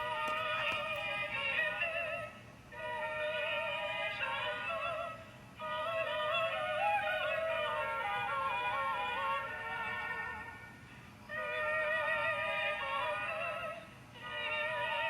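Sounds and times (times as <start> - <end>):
tinny melody from small speaker: 0.0 - 10.6, 11.3 - 15.0.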